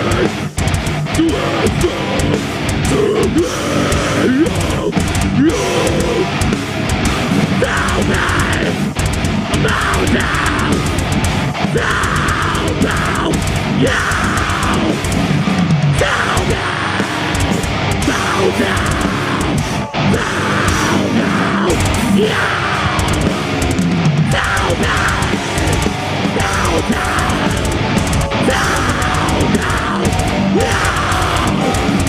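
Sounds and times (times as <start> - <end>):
fast drumming: 0.0 - 32.0
heavy electric guitars: 0.0 - 32.0.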